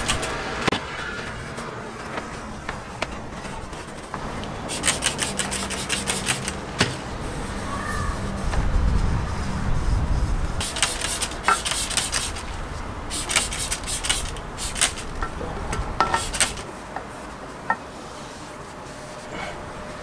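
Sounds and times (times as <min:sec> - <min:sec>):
cloth rag scrubbing metal frame: 0:03.5 - 0:20.0.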